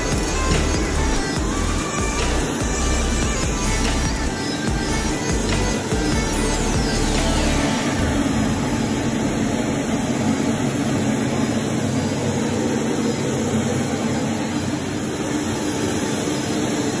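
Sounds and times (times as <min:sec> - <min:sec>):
carpet cleaning machine roaring: 0:00.0 - 0:17.0.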